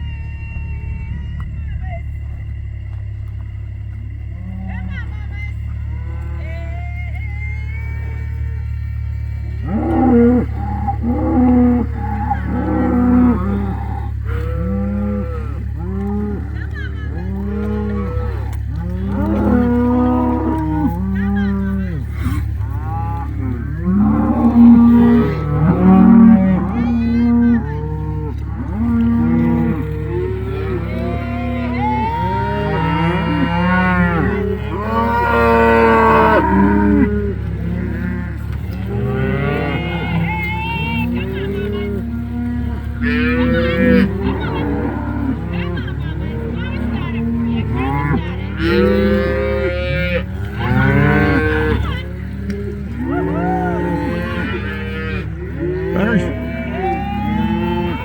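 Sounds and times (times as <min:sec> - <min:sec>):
cattle mooing: 0:00.0 - 0:58.0
steady low hum: 0:00.0 - 0:58.0.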